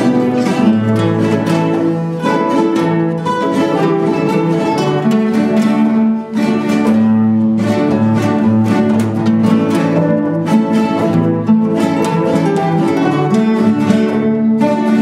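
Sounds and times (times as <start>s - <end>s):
classical guitars playing together: 0.0s - 15.0s.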